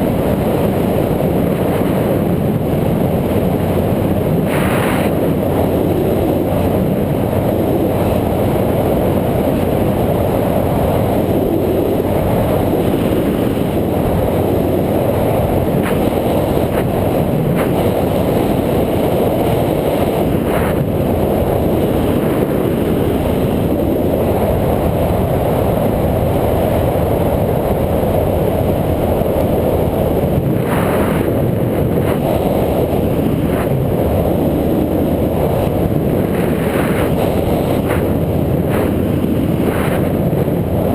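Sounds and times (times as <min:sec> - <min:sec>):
road rumble: 0:00.0 - 0:40.9
wind rush on microphone: 0:00.0 - 0:40.9.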